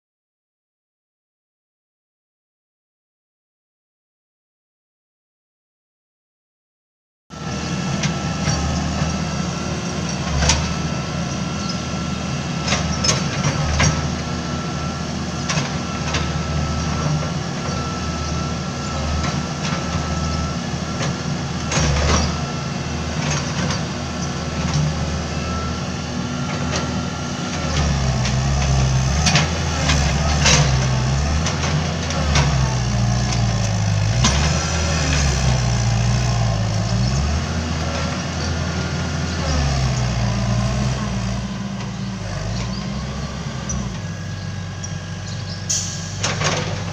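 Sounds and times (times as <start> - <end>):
excavator diesel engine running: 7.3 - 46.9.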